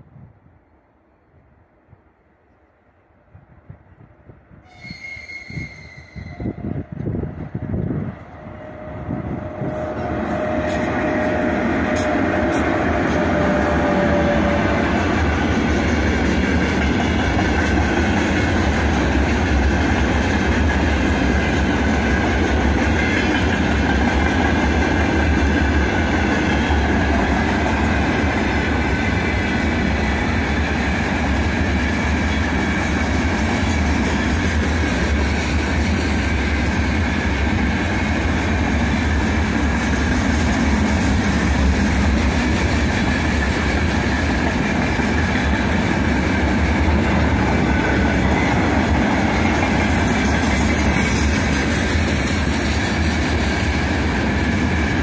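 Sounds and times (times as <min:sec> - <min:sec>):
steel wheels on rails: 0:04.6 - 0:55.0.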